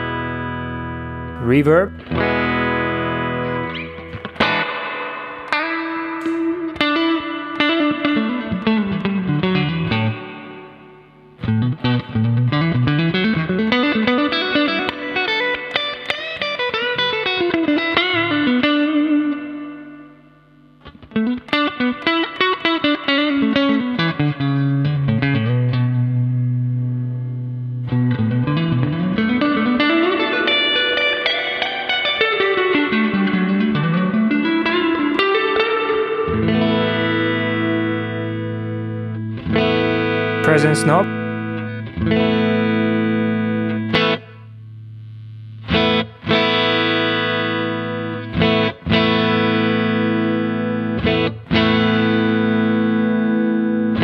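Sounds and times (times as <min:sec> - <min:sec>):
clean electric guitar with reverb: 0:00.0 - 0:20.2, 0:21.0 - 0:54.0.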